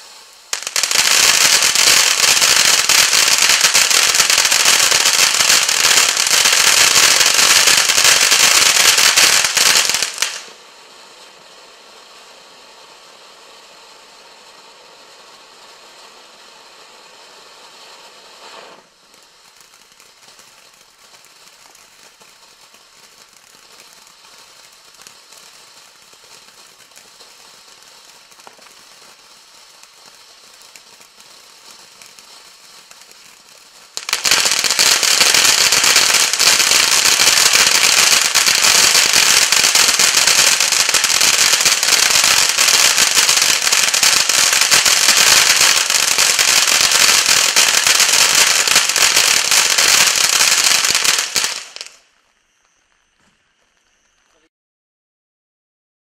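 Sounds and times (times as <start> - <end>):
fountain firework crackling: 0.0 - 54.5
hiss of spraying sparks: 0.0 - 54.5.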